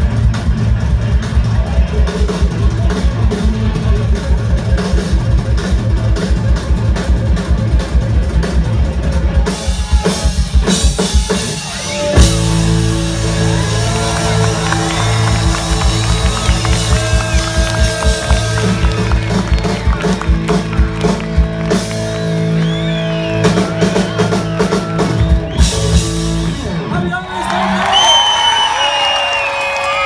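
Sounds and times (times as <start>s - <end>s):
drum kit beat: 0.0s - 26.9s
guitar: 0.0s - 28.7s
live band playing amplified music: 0.0s - 30.0s.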